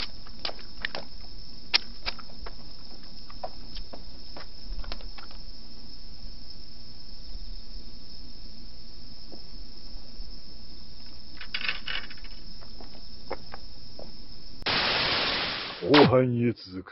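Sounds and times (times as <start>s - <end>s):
night insects chirring: 0.0s - 16.9s.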